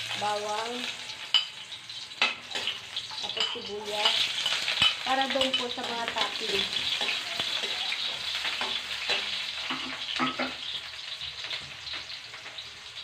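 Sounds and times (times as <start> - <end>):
garlic and onion sizzling in oil: 0.0 - 13.0
spatula scraping and tapping pan: 2.2 - 12.6.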